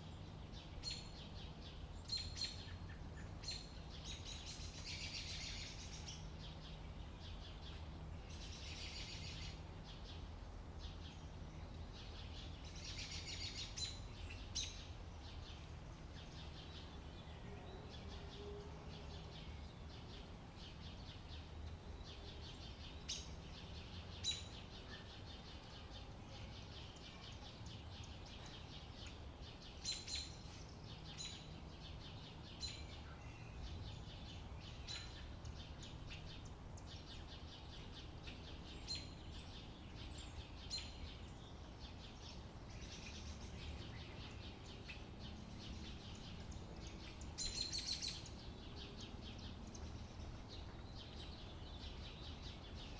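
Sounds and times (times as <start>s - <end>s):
faint steady low hum: 0.0s - 52.9s
birds chirping: 0.1s - 52.9s.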